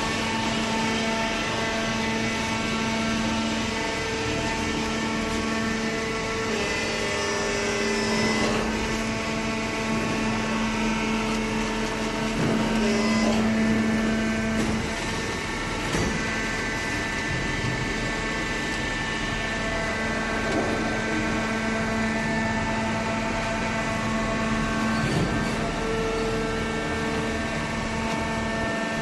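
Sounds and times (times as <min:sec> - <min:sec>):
baler mechanical hum: 0:00.0 - 0:29.0.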